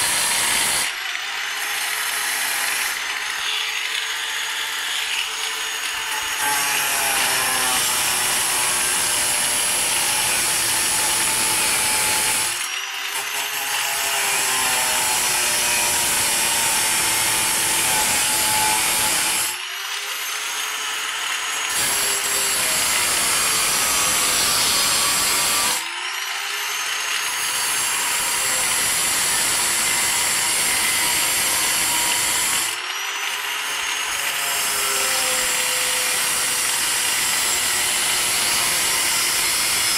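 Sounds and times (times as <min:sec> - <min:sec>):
power tool grinding: 0:00.0 - 0:39.9.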